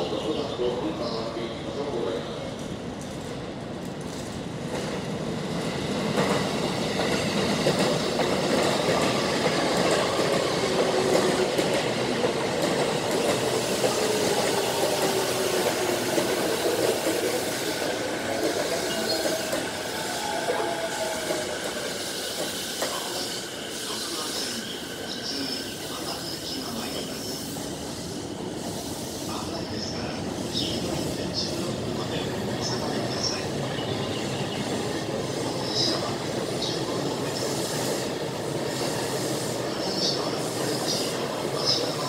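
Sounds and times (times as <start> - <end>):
train wheels running on rails: 0.0 - 42.0.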